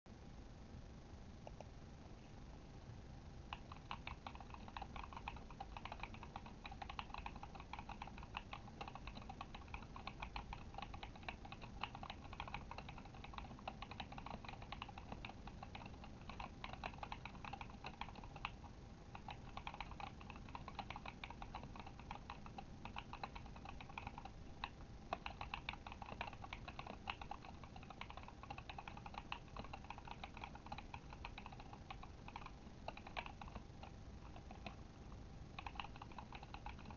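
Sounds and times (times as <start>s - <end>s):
mechanical keyboard typing: 3.5s - 34.8s, 35.6s - 36.9s.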